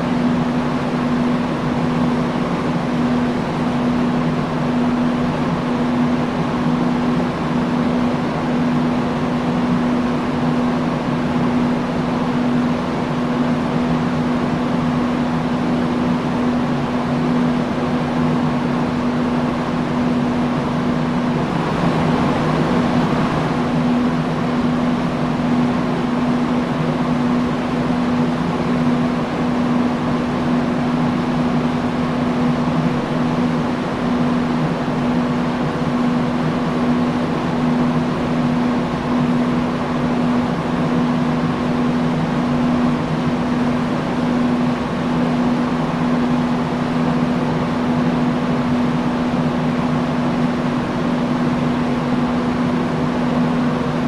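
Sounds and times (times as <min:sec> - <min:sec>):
industrial fan running: 0:00.0 - 0:54.0.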